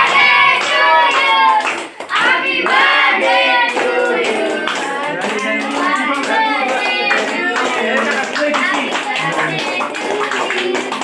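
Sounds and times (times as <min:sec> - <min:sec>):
children clapping: 0:00.0 - 0:11.0
children singing: 0:00.0 - 0:11.0.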